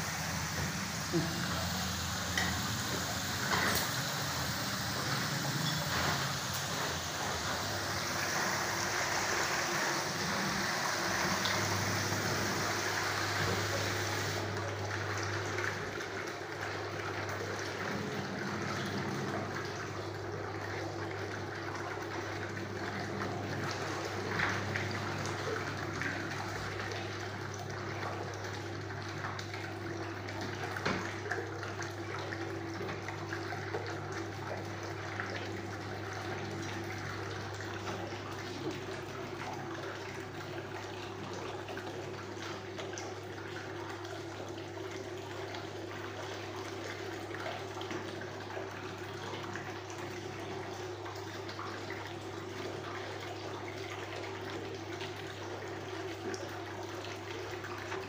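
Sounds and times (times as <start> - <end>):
water churning and splashing: 0.0 - 58.0.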